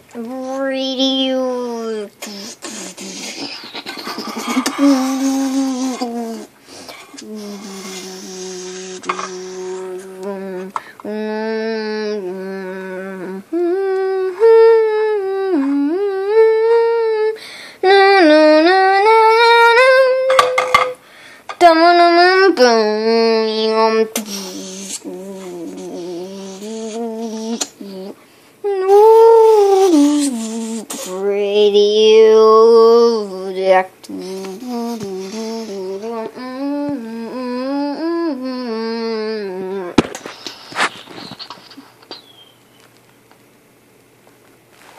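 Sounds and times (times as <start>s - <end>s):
person humming buzzy tones: 0.0s - 21.0s, 21.6s - 42.5s.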